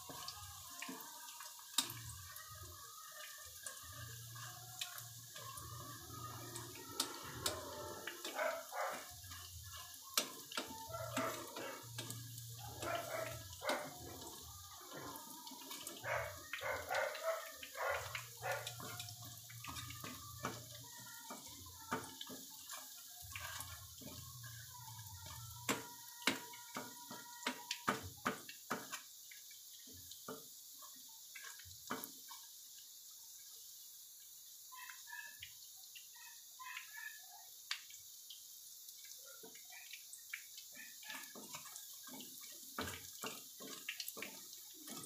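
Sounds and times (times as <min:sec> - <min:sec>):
hot oil sizzling and crackling: 0:00.0 - 0:45.0.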